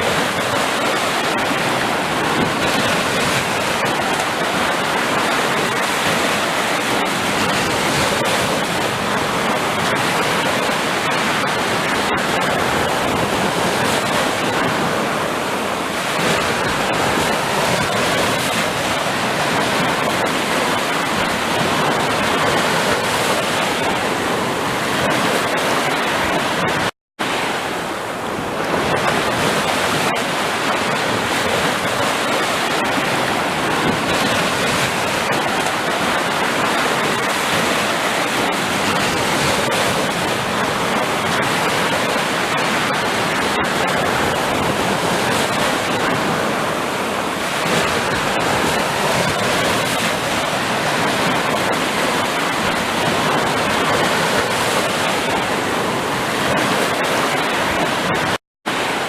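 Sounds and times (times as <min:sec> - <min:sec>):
waves breaking: 0:00.0 - 0:59.0.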